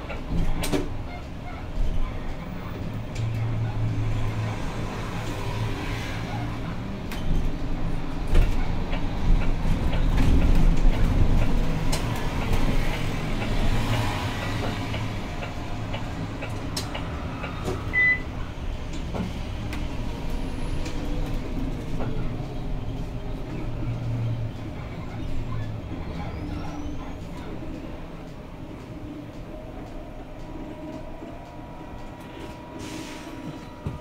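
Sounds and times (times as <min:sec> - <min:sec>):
bus drivetrain and road rumble: 0:00.0 - 0:34.0.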